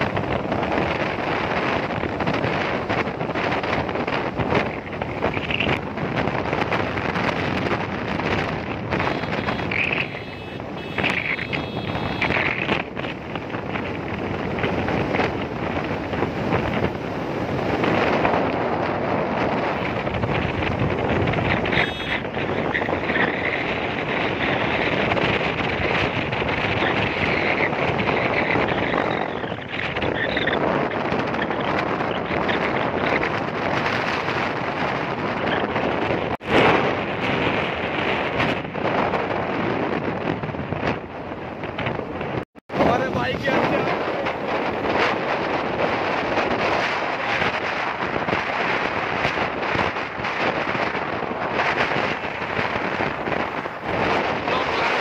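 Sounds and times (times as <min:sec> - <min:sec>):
motorcycle engines running: 0:00.0 - 0:55.0
vehicle road noise: 0:00.0 - 0:55.0
wind rushing over microphone: 0:00.0 - 0:55.0.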